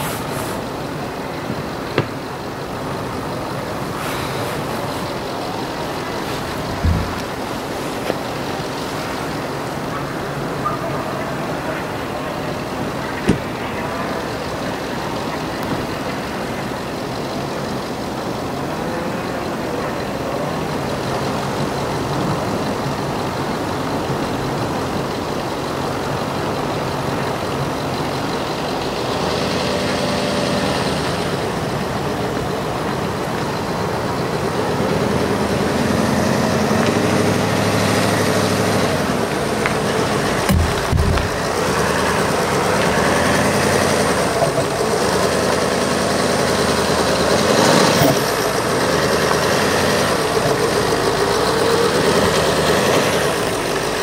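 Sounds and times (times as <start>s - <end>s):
suv engine running: 0.0s - 54.0s.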